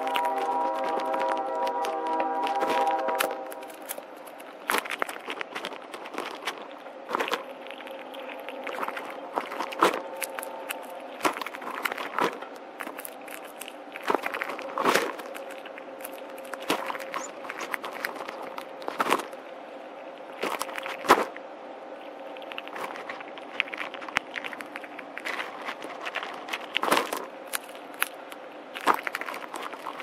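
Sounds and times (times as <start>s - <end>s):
shuffling through birdseed: 0.0s - 19.4s, 22.4s - 30.0s
faint steady hum: 0.0s - 30.0s
squirrel cracking seeds: 0.0s - 30.0s.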